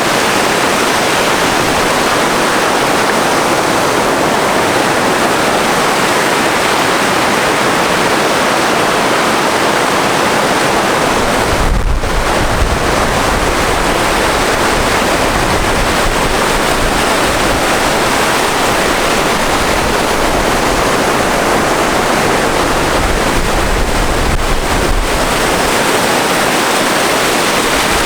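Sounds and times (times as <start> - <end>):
sea surf rushing: 0.0 - 28.0
wind buffeting microphone: 0.0 - 28.0.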